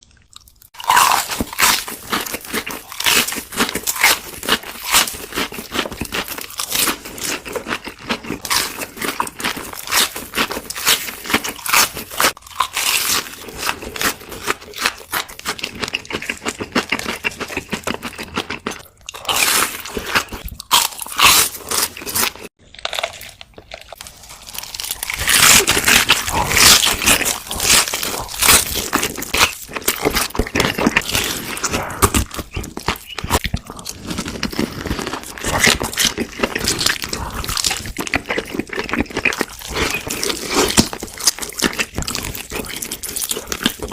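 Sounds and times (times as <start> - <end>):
person crunching fried food: 0.2 - 43.9.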